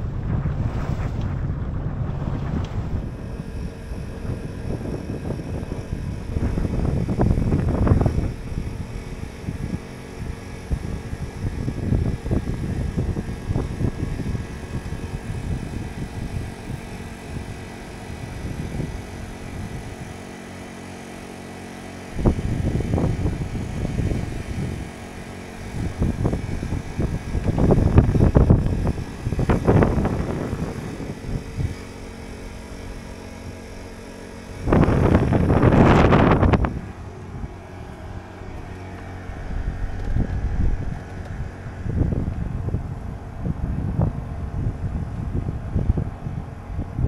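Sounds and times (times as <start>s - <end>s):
wind buffeting microphone: 0.0s - 21.2s, 21.9s - 47.0s
faint steady hum: 0.0s - 47.0s.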